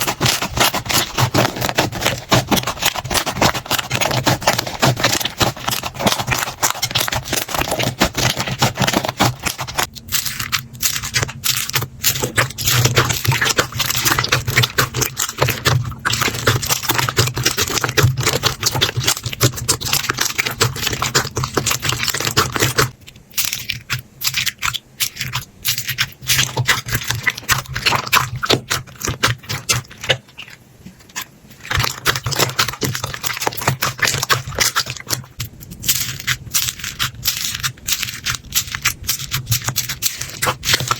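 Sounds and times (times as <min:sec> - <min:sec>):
slime squelching and popping: 0:00.0 - 0:40.9.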